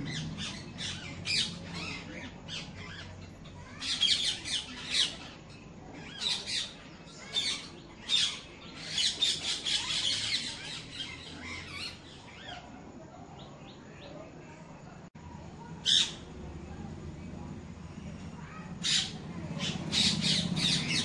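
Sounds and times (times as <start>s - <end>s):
birds squawking and chirping: 0.0s - 14.3s, 15.6s - 21.0s.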